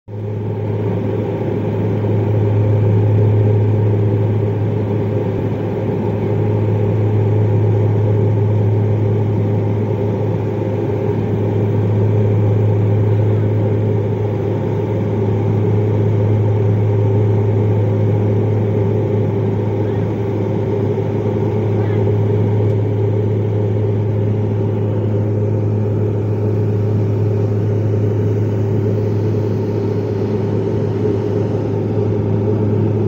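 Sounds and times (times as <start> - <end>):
propeller aircraft engine drone: 0.1 - 33.0.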